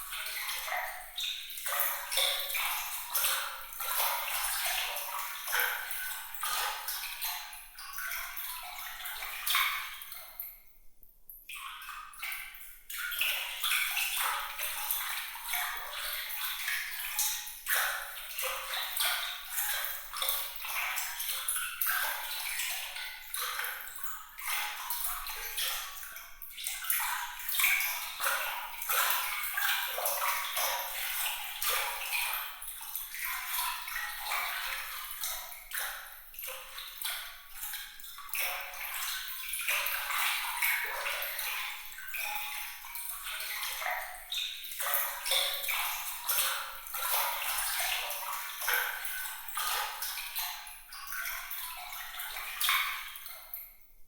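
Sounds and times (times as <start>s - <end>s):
water trickling and splashing: 0.0s - 10.7s, 11.3s - 53.9s.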